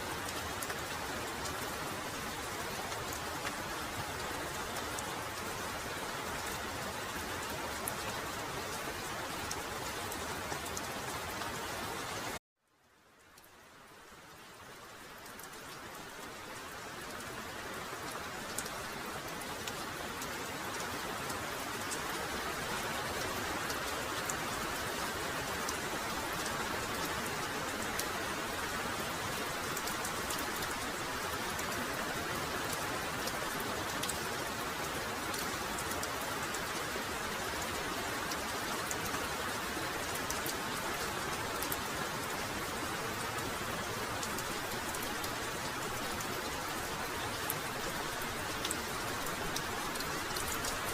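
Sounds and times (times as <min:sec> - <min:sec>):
heavy rain falling: 0:00.0 - 0:12.4, 0:13.0 - 0:50.9
sharp ticks of raindrops: 0:00.0 - 0:50.9.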